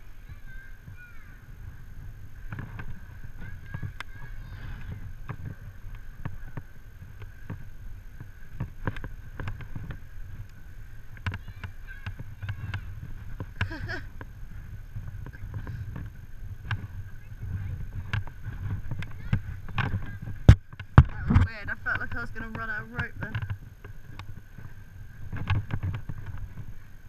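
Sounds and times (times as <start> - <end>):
wind rumbling on microphone: 0.0 - 27.0
rope and gear clicking: 2.4 - 27.0.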